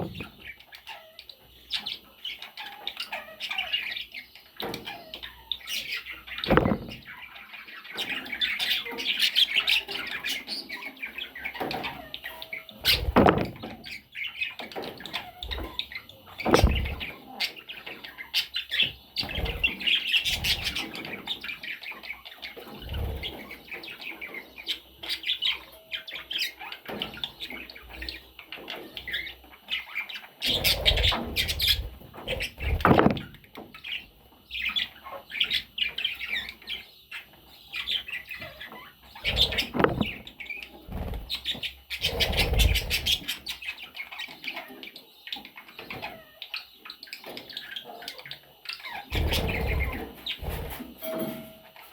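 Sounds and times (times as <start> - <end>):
budgerigars chattering and chirping: 0.0 - 51.0.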